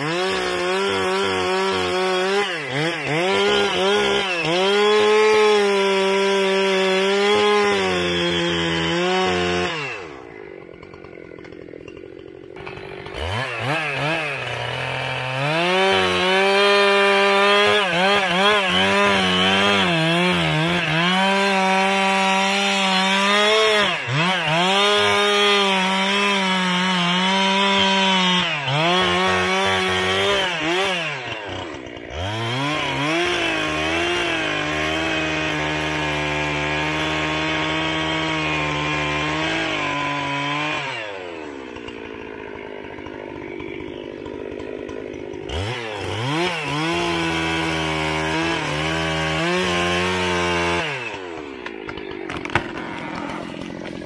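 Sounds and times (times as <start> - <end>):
chainsaw cutting into tree: 0.0 - 54.0.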